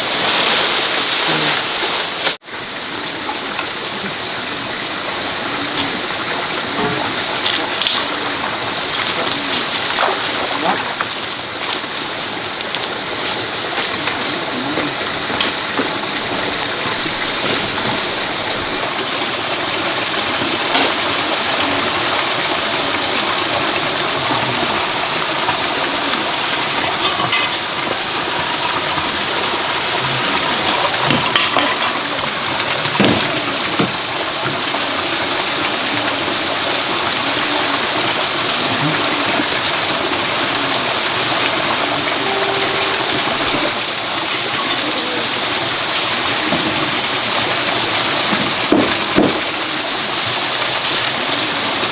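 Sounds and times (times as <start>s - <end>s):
flowing water rushing: 0.0s - 51.9s.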